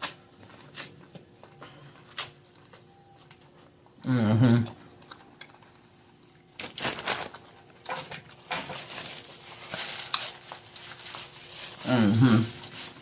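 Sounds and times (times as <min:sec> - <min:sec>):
seafood shells cracking and chewing: 0:00.0 - 0:03.9, 0:04.8 - 0:11.4.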